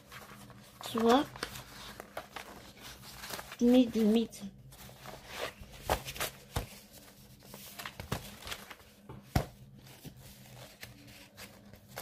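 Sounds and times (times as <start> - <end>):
paper and plastic rustling: 0.0 - 12.0.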